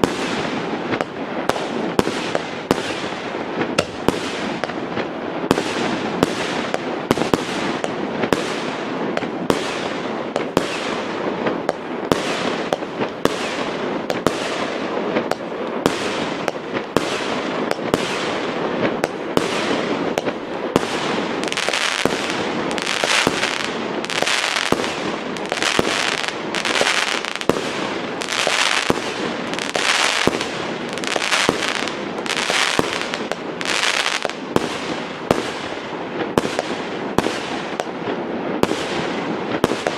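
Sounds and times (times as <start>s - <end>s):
fireworks crackling and bangs: 0.0s - 39.9s.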